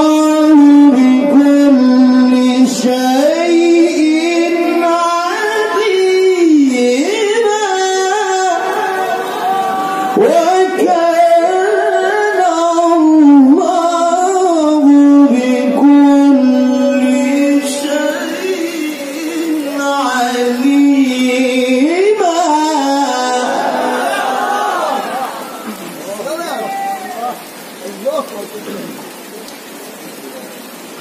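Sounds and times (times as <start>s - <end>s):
man reciting melodically into microphone: 0.0s - 29.0s.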